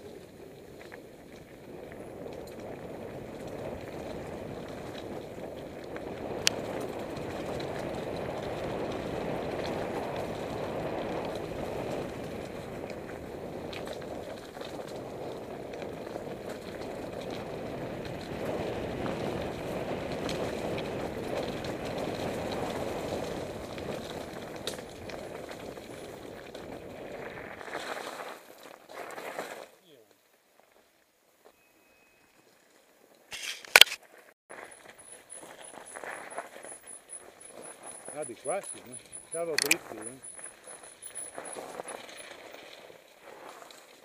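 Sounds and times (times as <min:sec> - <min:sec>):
bike tyre noise on dirt: 0:00.0 - 0:44.0
bike clicks and rattles: 0:00.1 - 0:28.0, 0:33.3 - 0:44.0.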